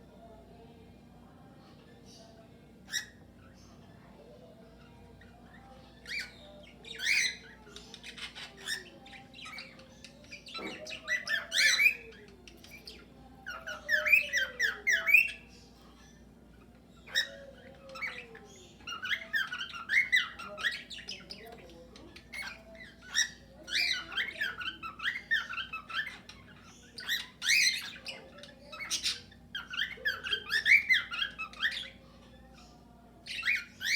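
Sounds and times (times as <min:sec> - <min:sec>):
birds chirping and squawking: 0:00.1 - 0:33.9.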